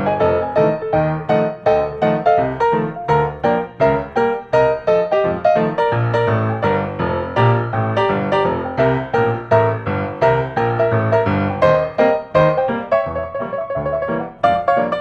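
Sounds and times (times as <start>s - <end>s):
bass line: 0.0s - 14.4s
quick piano tune: 0.0s - 15.0s.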